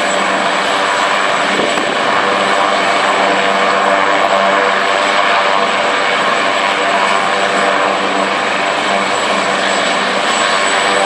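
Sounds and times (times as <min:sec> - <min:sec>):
helicopter engines and rotor: 0:00.0 - 0:11.0
high turbine whine: 0:00.0 - 0:11.0.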